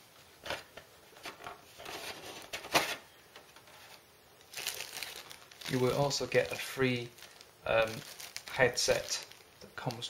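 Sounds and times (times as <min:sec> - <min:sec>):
plastic wrapping rustling: 0:00.4 - 0:10.0.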